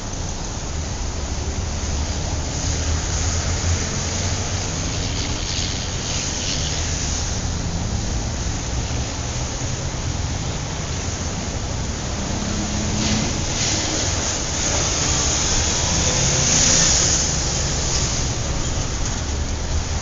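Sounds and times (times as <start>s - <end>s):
passing vehicle hiss: 0.0s - 20.0s
traffic engine and tyre rumble: 0.0s - 20.0s.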